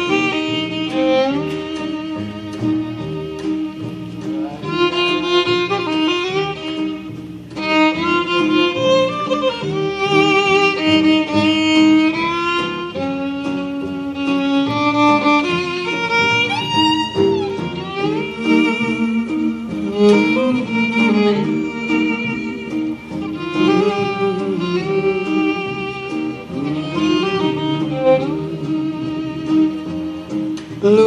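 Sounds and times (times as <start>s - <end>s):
bowed violin-like melody: 0.0s - 31.0s
musical accompaniment: 0.0s - 31.0s.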